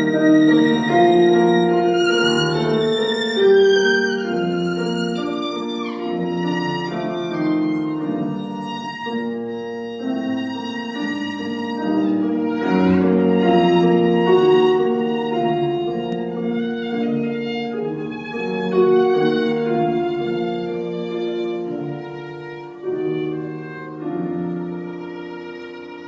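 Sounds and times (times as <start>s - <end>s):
violin playing with vibrato: 0.0s - 26.0s.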